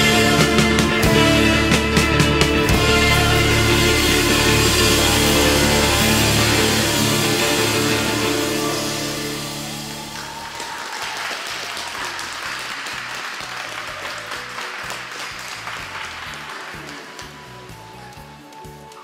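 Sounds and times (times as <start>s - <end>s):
audience applause: 0.0s - 19.0s
music: 0.0s - 19.0s.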